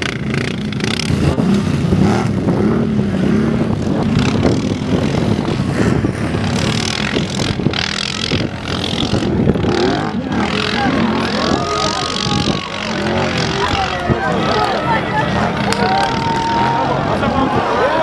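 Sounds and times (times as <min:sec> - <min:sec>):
quad engines revving: 0:00.0 - 0:18.0.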